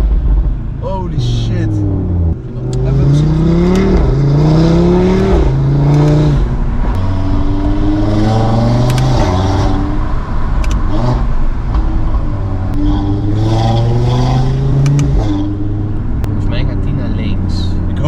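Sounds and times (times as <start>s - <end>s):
car engine accelerating: 0.0s - 18.0s
exhaust cracks: 0.0s - 18.0s.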